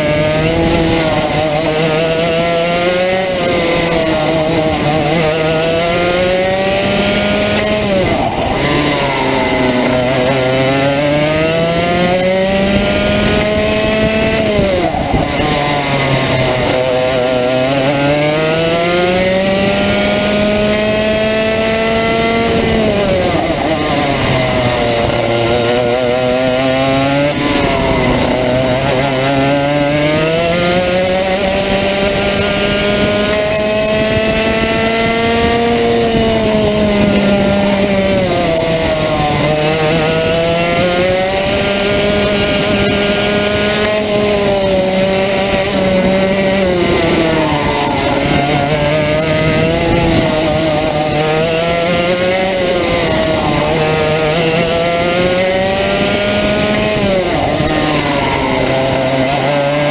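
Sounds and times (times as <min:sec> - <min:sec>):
kart engine at racing revs: 0:00.0 - 0:59.9.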